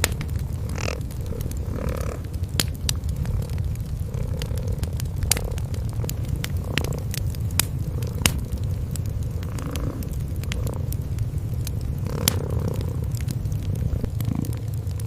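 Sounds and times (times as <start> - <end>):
cats purring: 0.0 - 15.0
wood fire crackling: 0.0 - 15.0.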